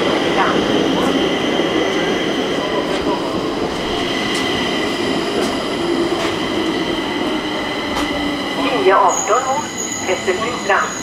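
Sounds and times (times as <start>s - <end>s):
metro train rumble and whine: 0.0s - 11.0s.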